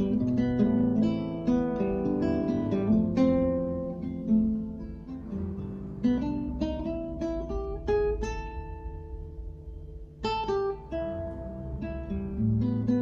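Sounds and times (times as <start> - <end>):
fingerpicked acoustic guitar: 0.0 - 13.0.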